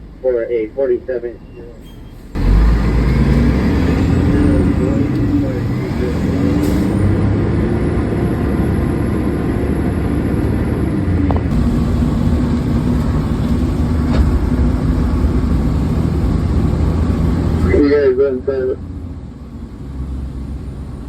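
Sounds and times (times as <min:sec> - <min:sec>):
fire engine rumbling: 0:00.0 - 0:21.0.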